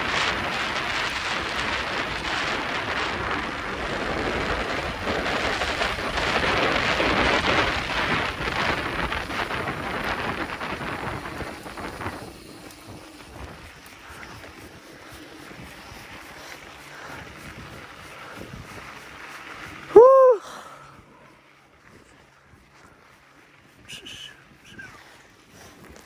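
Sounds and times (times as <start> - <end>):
tyres rolling over dirt: 0.0 - 24.3
wind rushing over microphone: 0.0 - 26.0.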